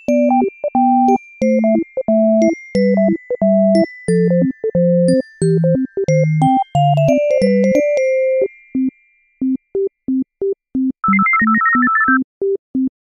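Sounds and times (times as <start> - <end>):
bouncy synthesizer tune: 0.0 - 13.0.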